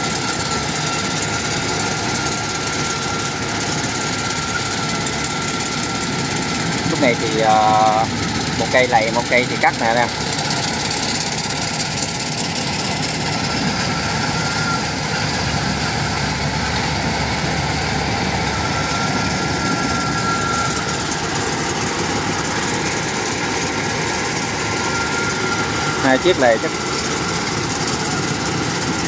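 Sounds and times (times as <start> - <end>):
combine harvester droning: 0.0 - 29.0
faint high whine: 0.5 - 29.0.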